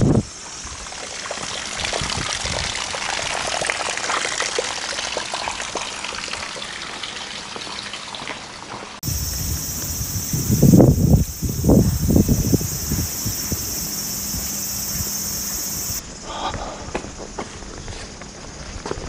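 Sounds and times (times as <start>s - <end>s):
running water splashing: 0.4s - 16.0s.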